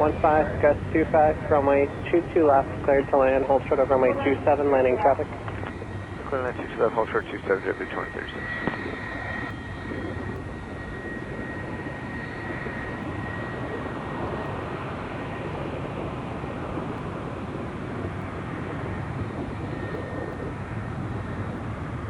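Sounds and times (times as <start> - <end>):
faint high whine: 0.0 - 22.0
jet engines rushing: 0.0 - 22.0.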